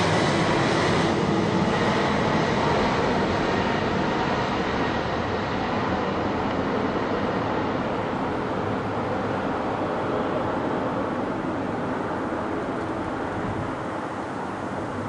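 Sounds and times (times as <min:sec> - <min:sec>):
jet aircraft roar: 0:00.0 - 0:15.0.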